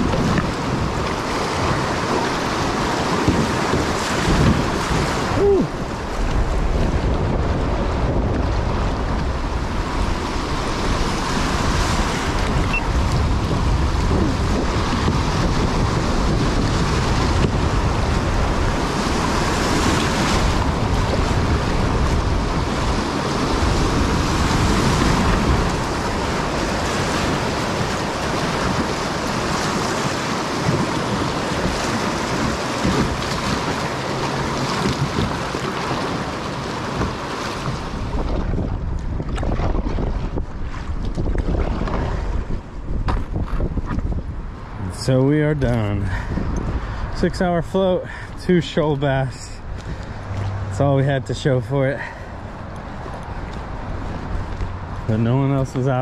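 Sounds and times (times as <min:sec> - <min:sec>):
river water rushing: 0:00.0 - 0:43.0, 0:44.4 - 0:56.0
wind buffeting microphone: 0:00.0 - 0:56.0.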